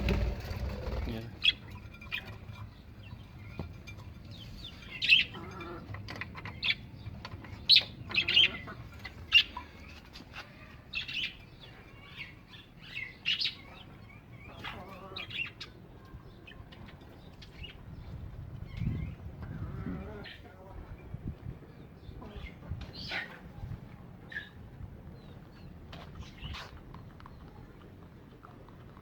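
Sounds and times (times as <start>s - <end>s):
birds chirping and calling: 0.0s - 27.5s.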